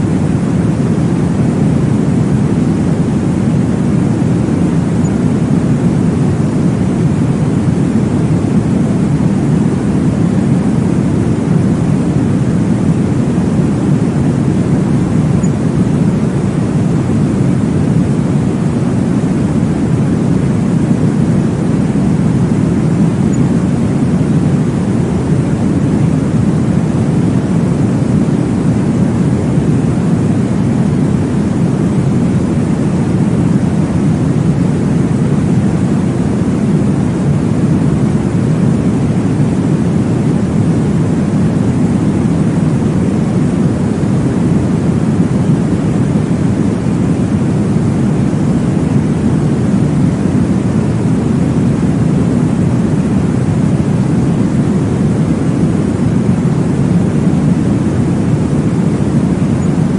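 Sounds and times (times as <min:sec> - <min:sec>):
deep whooshing white noise: 0:00.0 - 0:59.9.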